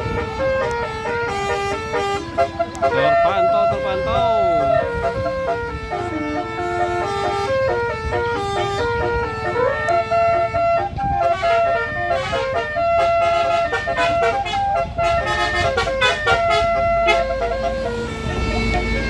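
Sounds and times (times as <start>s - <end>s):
bus engine rumbling: 0.0s - 19.0s
multi-tone musical air horn: 0.0s - 19.0s.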